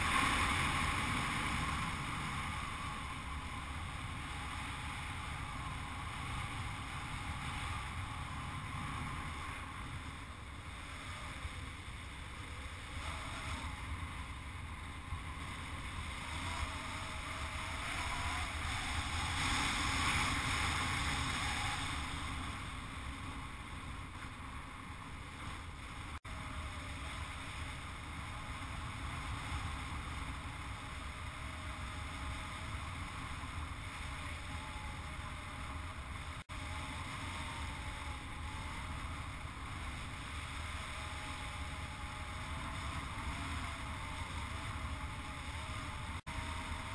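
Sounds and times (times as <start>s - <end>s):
wind rushing on microphone: 0.0s - 46.9s.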